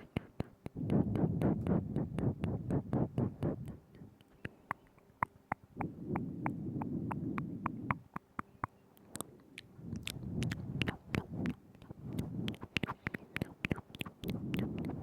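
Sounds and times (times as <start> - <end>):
breathy mouth noise: 0.0 - 15.0
wet tongue and lip clicks: 0.0 - 15.0.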